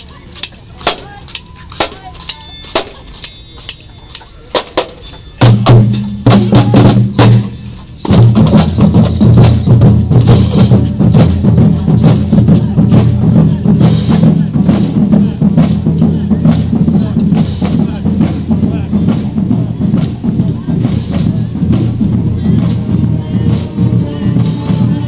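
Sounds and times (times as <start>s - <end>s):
snare drums beating: 0.0s - 3.8s, 4.5s - 25.0s
marching band playing: 0.0s - 25.0s.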